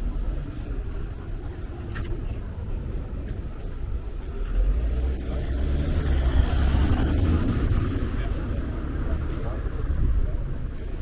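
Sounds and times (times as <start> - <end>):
city street rumble: 0.0 - 11.0.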